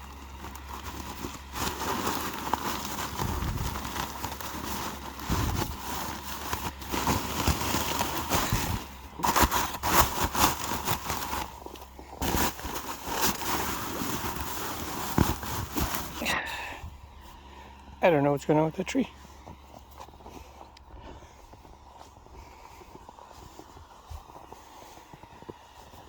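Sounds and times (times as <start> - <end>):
crackling and rustling: 0.0 - 26.0.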